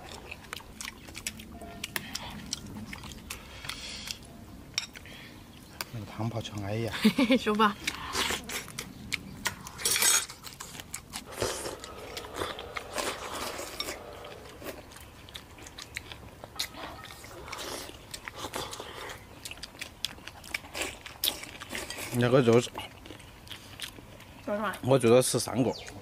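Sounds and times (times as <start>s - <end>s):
chewing: 0.0s - 6.0s, 7.8s - 24.5s.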